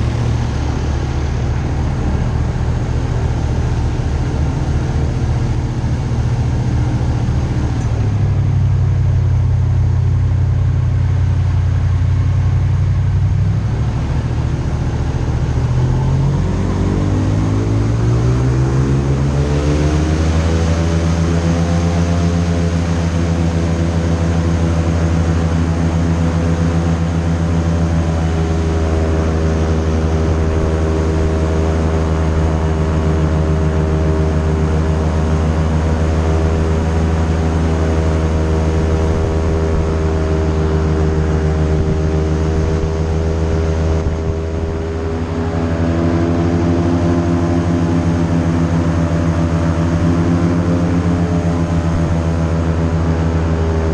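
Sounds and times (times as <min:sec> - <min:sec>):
airboat engine and propeller: 0:00.0 - 0:53.9.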